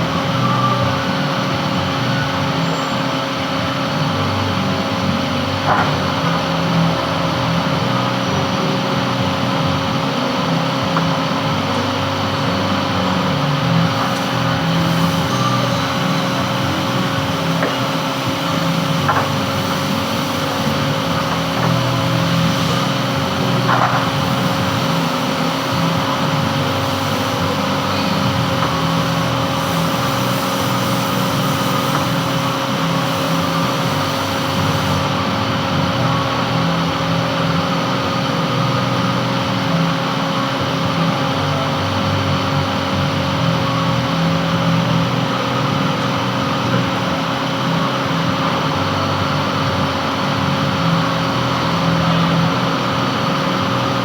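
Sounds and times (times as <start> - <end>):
metal lathe humming: 6.3 - 54.0.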